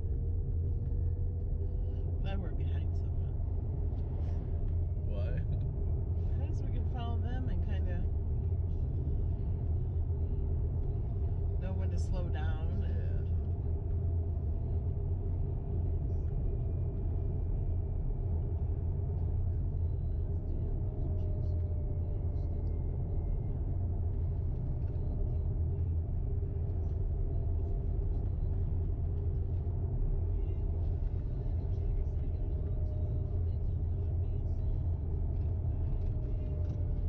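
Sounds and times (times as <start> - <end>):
road and tyre rumble in car cabin: 0.0 - 37.0.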